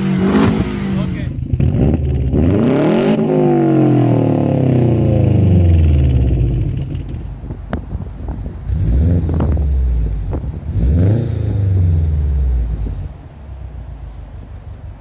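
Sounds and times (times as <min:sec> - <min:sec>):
car engine revving: 0:00.0 - 0:07.6, 0:08.6 - 0:13.3.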